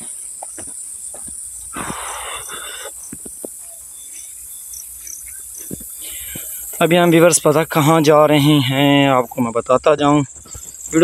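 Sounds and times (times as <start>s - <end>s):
footsteps on dirt and grass: 0.0s - 9.5s, 10.2s - 11.0s
crickets chirring: 0.0s - 11.0s.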